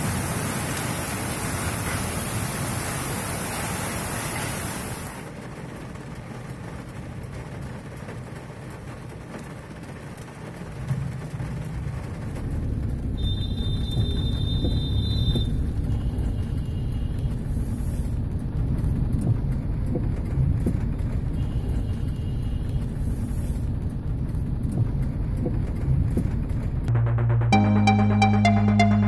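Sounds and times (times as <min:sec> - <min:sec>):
street traffic rumble: 0:00.0 - 0:27.8.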